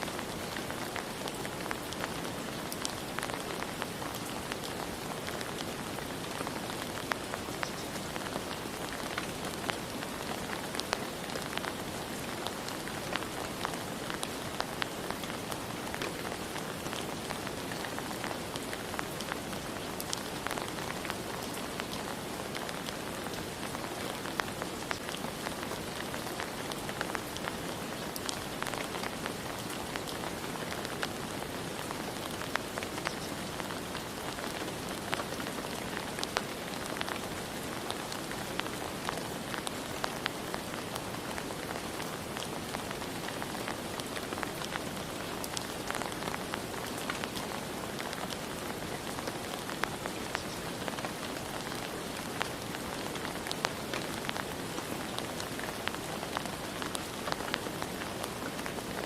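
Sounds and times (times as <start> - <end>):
raindrops pattering: 0.0 - 59.0.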